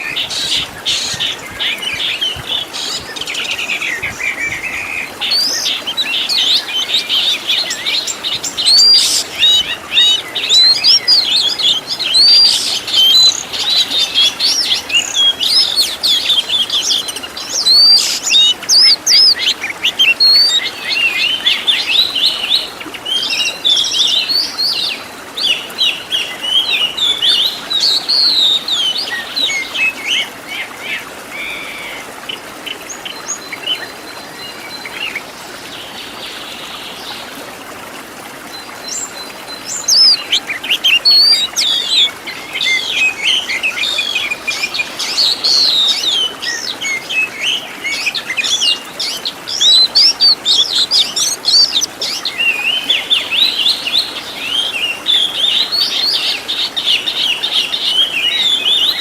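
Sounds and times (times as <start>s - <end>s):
songbird singing whistles and trills: 0.0s - 30.7s, 38.9s - 59.0s.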